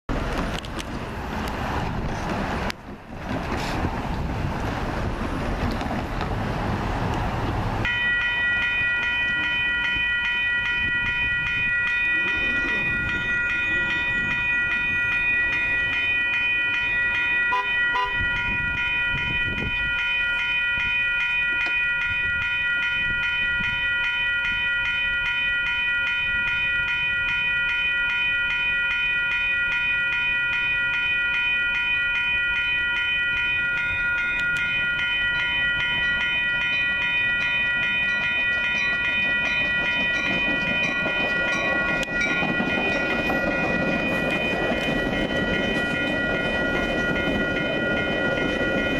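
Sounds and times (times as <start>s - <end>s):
passing traffic: 0.1s - 48.9s
crossing bell ringing: 5.0s - 48.9s.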